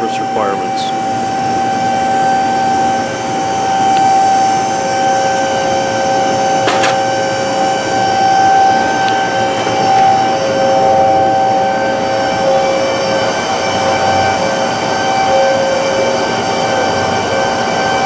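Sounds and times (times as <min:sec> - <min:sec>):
machinery hum with whine: 0:00.0 - 0:18.0.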